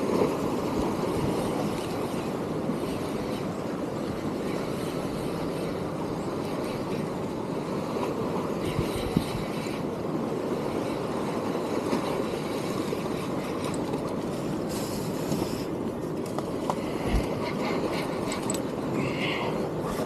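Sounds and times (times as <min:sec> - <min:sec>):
sea washing against rocks: 0:00.0 - 0:20.0.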